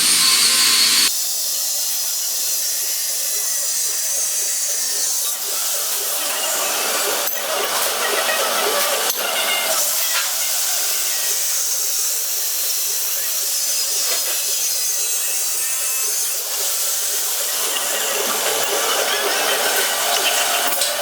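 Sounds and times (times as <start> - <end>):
power tool cutting metal: 0.0 - 21.0.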